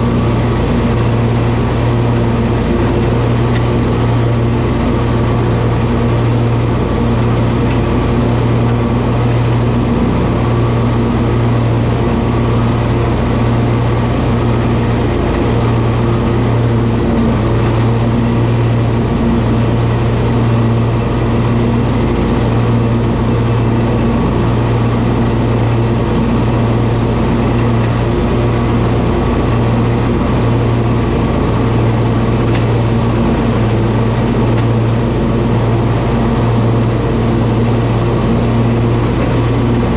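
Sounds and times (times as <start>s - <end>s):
lawn mower running: 0.0s - 39.9s.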